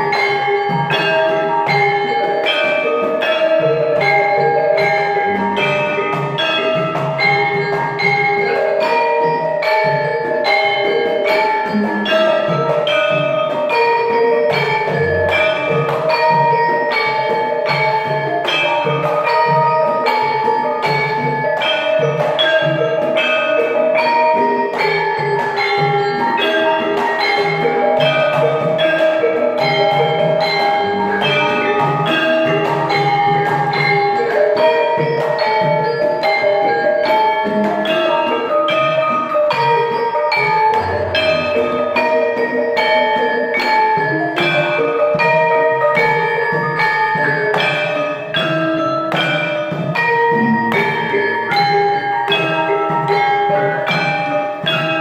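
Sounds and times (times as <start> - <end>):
gamelan metallophones ringing: 0.0 - 55.0.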